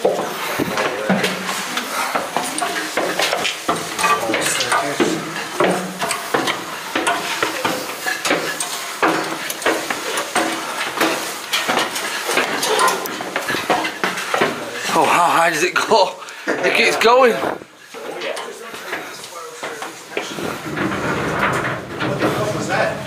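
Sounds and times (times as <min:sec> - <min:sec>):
footsteps on stairs: 0:00.0 - 0:23.0.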